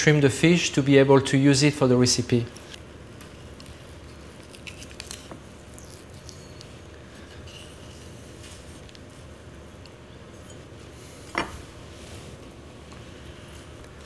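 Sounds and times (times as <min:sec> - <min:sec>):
room noise: 0:00.0 - 0:14.0.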